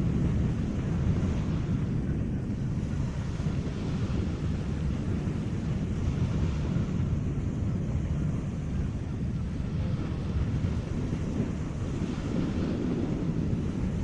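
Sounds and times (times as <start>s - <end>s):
sea washing: 0.0s - 14.0s
wind buffeting microphone: 0.0s - 14.0s.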